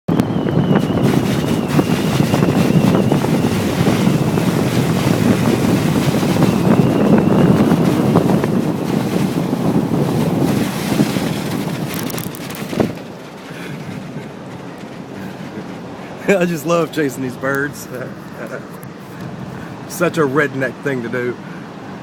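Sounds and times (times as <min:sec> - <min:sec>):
wind buffeting microphone: 0:00.1 - 0:20.8
surf: 0:00.1 - 0:22.0.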